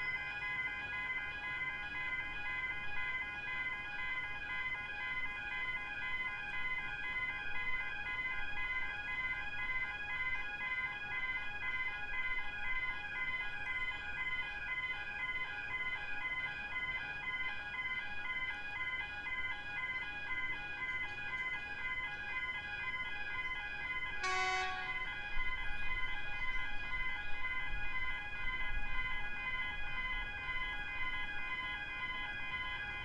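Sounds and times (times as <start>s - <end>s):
railway crossing bells ringing: 0.0s - 30.2s.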